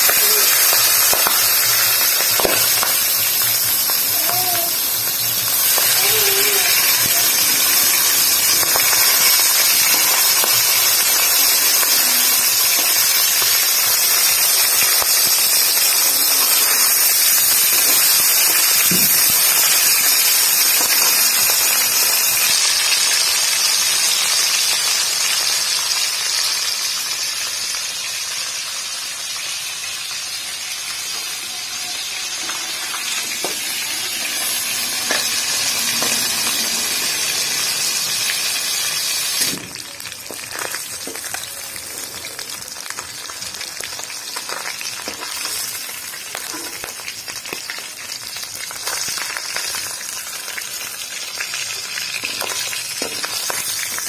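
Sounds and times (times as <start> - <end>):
fish frying in hot oil: 0.0 - 54.0.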